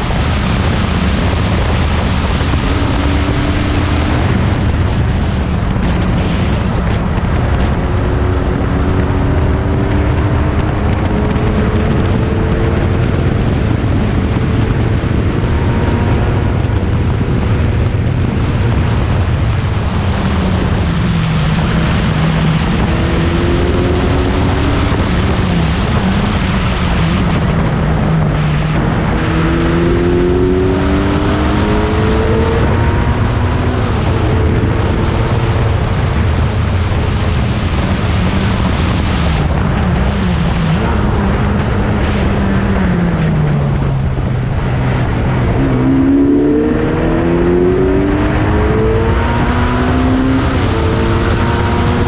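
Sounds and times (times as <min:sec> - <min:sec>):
loud steady rush of noise: 0:00.0 - 0:52.0
racing car engines revving: 0:00.0 - 0:52.0.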